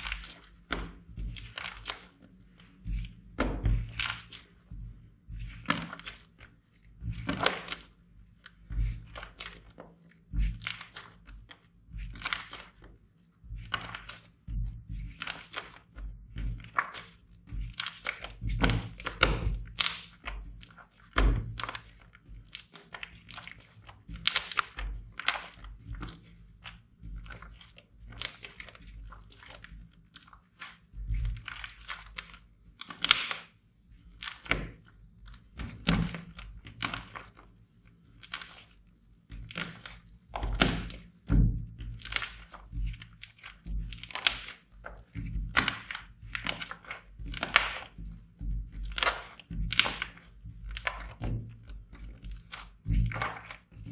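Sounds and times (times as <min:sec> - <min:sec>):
slime squelching and popping: 0:00.0 - 0:53.9.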